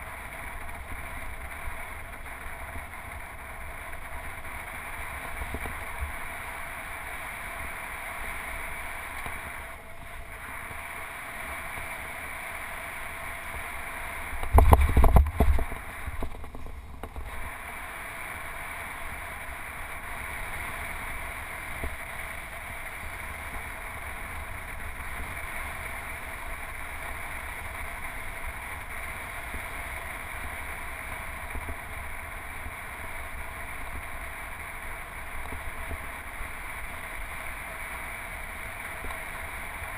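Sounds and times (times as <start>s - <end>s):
bicycle tyre hiss: 0.0s - 39.9s
wind rushing over camera: 0.0s - 39.9s.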